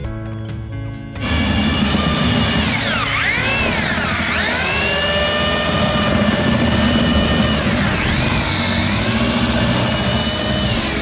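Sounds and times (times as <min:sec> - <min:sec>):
electric drill motor whine: 0:01.2 - 0:11.0
paddle mixer churning mortar: 0:01.2 - 0:11.0.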